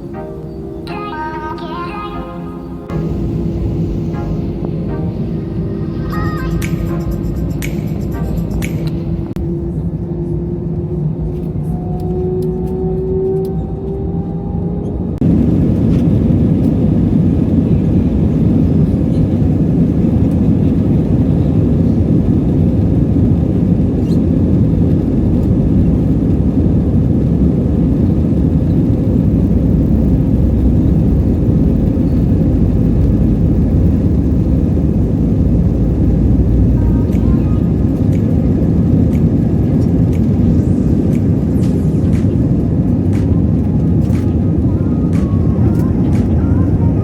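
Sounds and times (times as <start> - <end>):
rising whine: 0.0 - 18.4, 24.7 - 47.0
airliner cabin rumble: 0.0 - 47.0.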